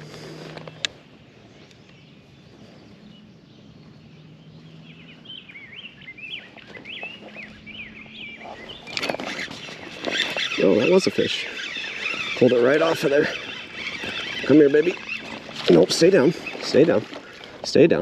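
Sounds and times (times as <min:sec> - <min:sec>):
bird chirping: 0:00.0 - 0:18.0
faint outdoor background: 0:00.0 - 0:18.0.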